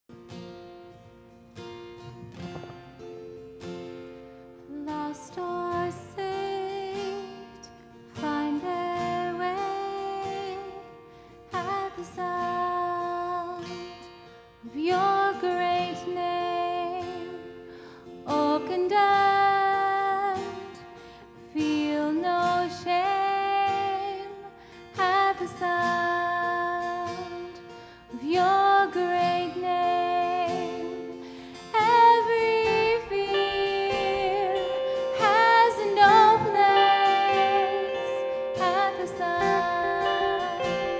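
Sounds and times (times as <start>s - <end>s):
acoustic guitar: 0.0s - 40.9s
woman singing: 4.5s - 40.9s.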